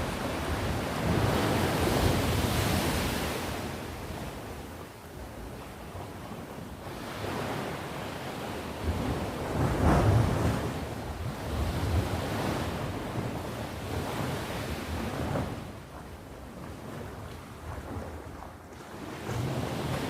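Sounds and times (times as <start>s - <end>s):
sea waves washing onto shore: 0.0s - 5.3s, 5.9s - 20.0s.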